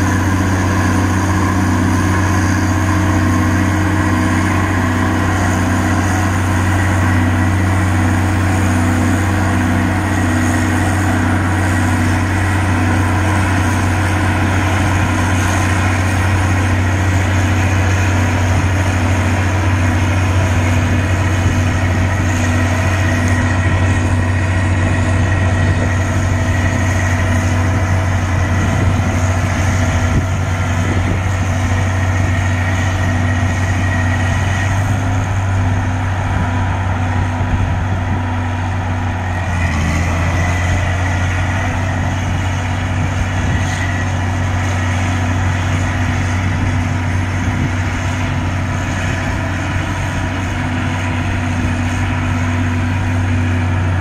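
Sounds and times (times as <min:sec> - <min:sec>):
engine droning: 0:00.0 - 0:54.0.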